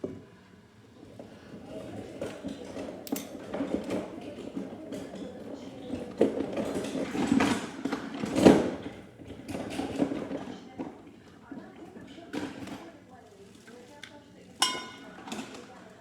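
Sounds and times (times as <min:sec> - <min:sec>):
clatter of objects being handled: 0:01.8 - 0:15.8.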